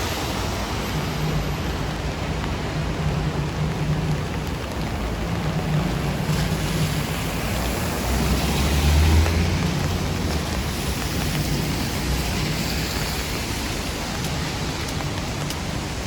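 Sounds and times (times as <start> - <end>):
low traffic rumble: 0.0 - 16.0
rain hissing on street: 0.0 - 16.0.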